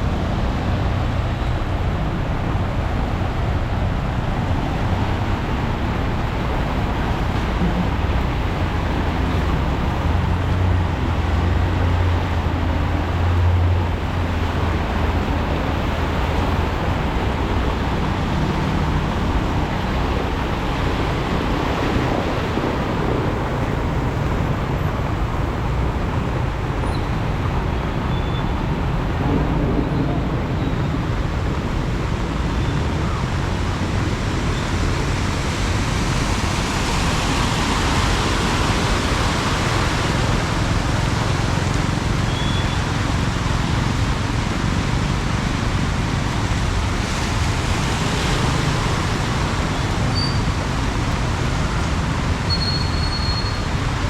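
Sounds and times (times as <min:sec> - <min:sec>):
road traffic: 0:00.0 - 0:54.0.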